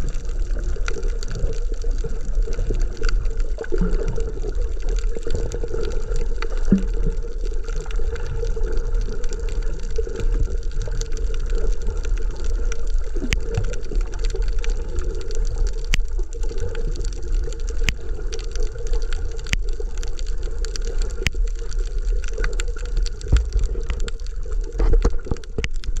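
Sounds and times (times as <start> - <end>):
underwater rumble and hum: 0.0 - 26.0.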